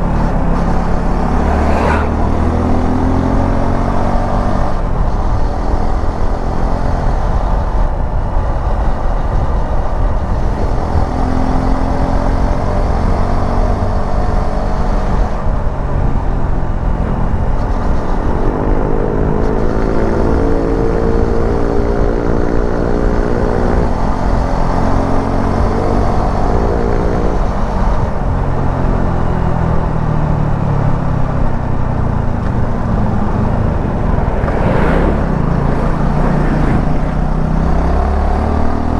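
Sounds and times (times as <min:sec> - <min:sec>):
low rumble of wind noise: 0:00.0 - 0:38.9.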